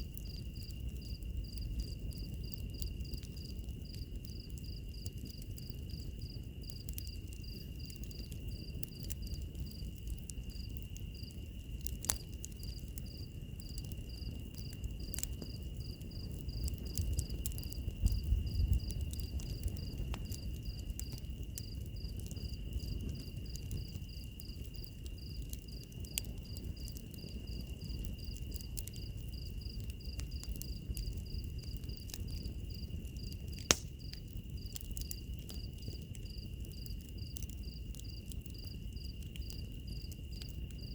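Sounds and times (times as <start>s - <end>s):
wood fire crackling: 0.0s - 40.9s
insect chirping: 0.2s - 40.9s.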